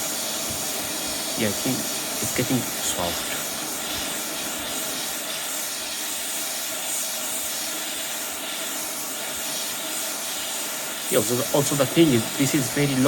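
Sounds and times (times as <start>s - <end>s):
hot air gun hissing: 0.0s - 13.0s.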